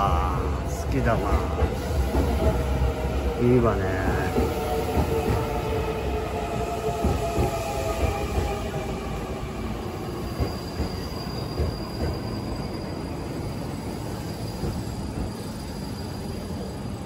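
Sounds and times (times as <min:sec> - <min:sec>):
continuous train rumble: 0:00.0 - 0:17.0
train whine with wheel squeal: 0:00.0 - 0:17.0.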